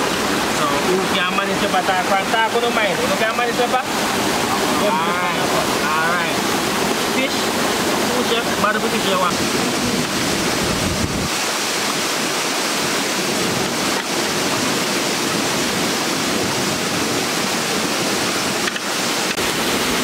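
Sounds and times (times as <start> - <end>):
river water rushing over falls: 0.0 - 20.0.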